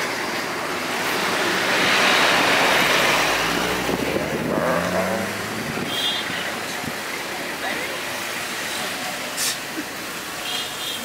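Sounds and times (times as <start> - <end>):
low bus engine hum: 0.0 - 11.0
road rushing noise: 0.0 - 11.0.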